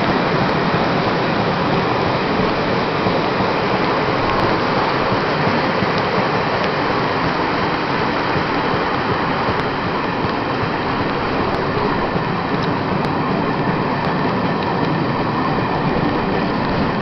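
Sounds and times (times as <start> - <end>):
train rushing on rails: 0.0 - 17.0.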